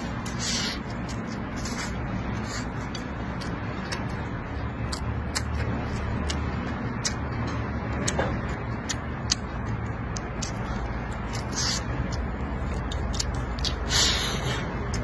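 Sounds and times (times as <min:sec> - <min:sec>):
wet mouth chewing clicks: 0:00.2 - 0:15.0.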